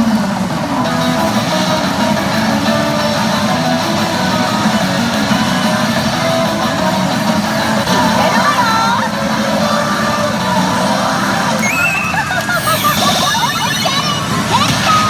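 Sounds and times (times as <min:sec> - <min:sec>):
plucked guitar music: 0:00.0 - 0:12.6.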